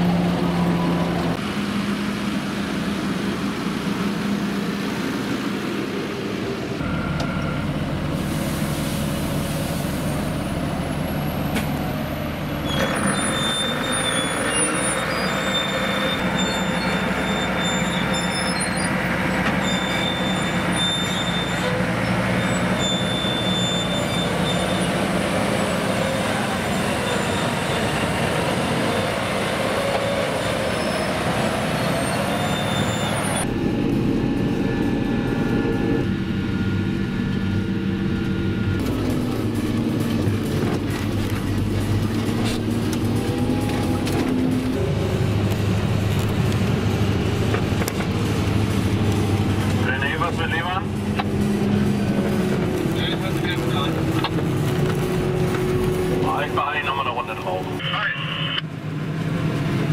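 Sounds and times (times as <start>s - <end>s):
tractor diesel engines running: 0.0s - 59.9s.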